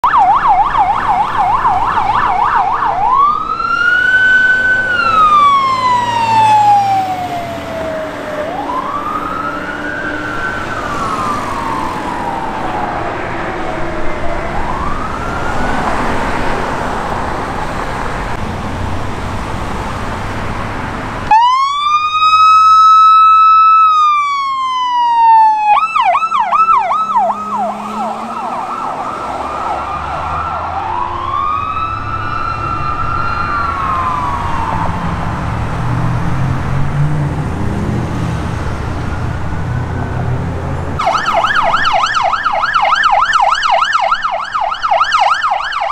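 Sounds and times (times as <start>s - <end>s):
police car siren wailing: 0.0s - 18.4s, 21.3s - 36.8s, 38.2s - 45.9s
fire engine siren yelping and wailing: 0.0s - 45.9s
traffic: 0.0s - 45.9s.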